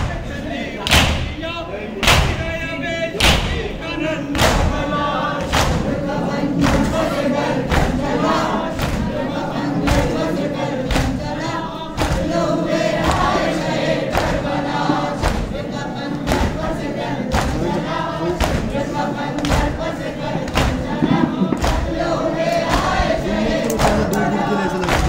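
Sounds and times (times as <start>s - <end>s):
men singing in unison: 0.0s - 25.0s.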